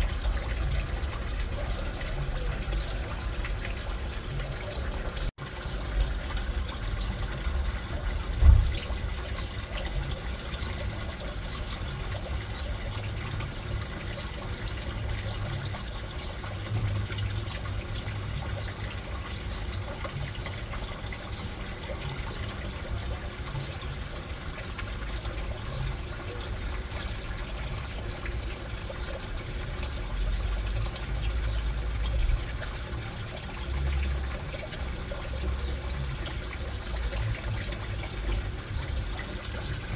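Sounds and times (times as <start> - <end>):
water trickling in aquarium: 0.0 - 39.9.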